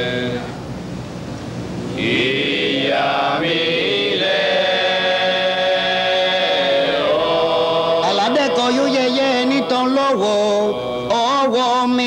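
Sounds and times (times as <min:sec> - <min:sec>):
person chanting: 0:02.0 - 0:12.0.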